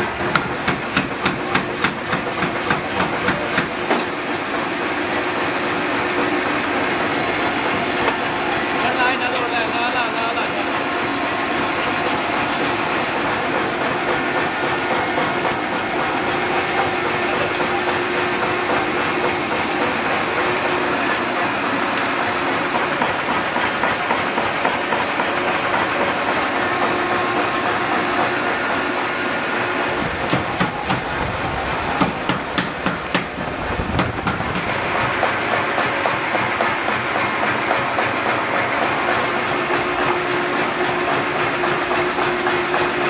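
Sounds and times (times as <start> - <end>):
mechanical workshop din: 0.0 - 43.0.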